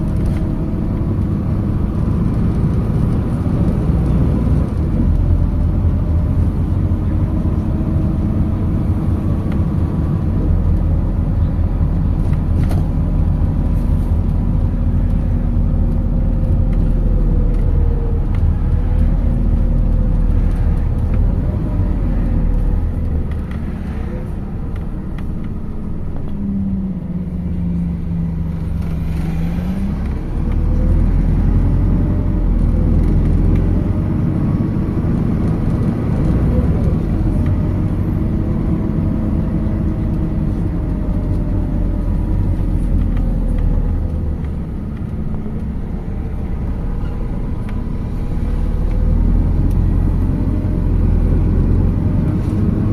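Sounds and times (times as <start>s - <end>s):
bus engine rumble: 0.0s - 52.9s
drivetrain whine: 0.0s - 52.9s.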